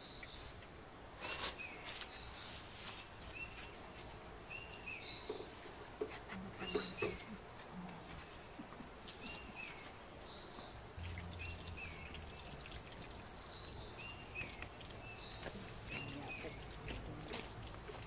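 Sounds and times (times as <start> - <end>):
birds chirping faintly: 0.0 - 18.0
faint steady low hum: 0.1 - 18.0.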